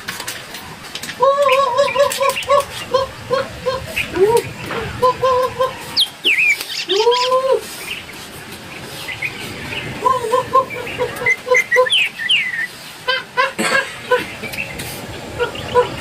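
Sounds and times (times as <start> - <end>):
birds calling: 1.0 - 16.0.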